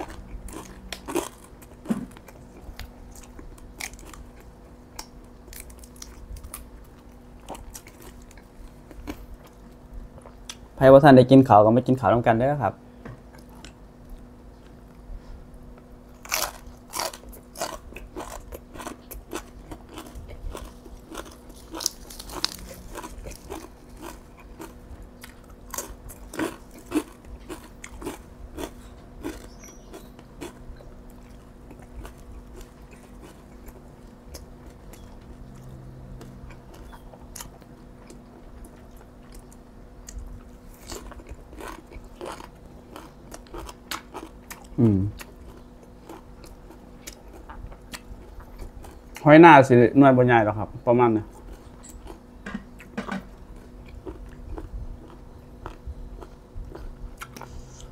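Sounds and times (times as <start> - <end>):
person chewing crunchy food: 0.0 - 10.6, 13.2 - 49.3, 51.2 - 57.9.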